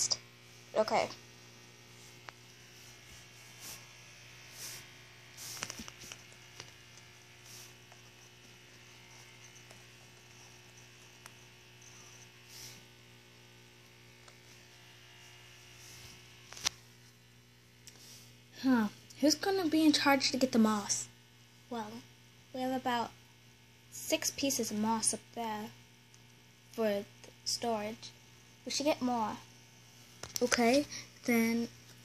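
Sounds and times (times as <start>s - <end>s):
faint electrical hum: 0.0s - 32.0s.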